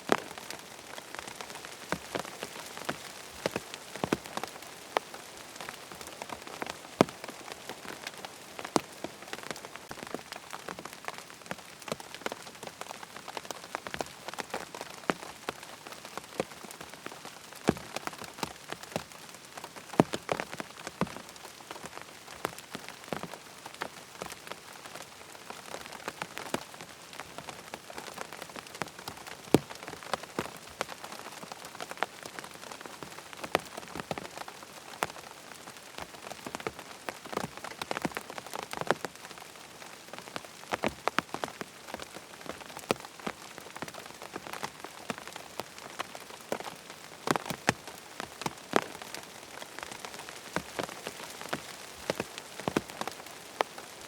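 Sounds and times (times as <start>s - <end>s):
rain on a tent: 0.0s - 54.0s.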